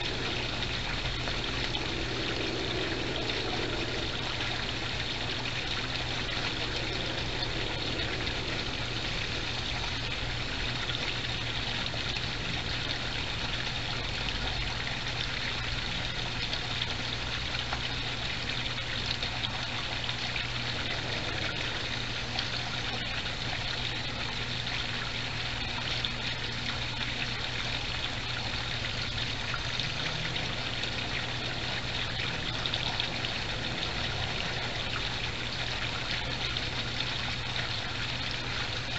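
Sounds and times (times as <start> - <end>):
low steady hum: 0.0 - 38.9
water trickling in a pond: 0.0 - 38.9.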